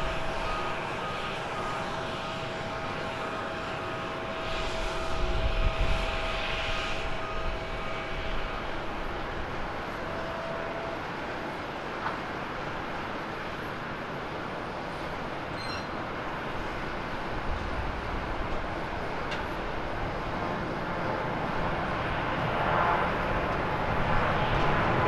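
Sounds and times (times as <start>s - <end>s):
jet engines on landing roll: 0.0s - 25.0s.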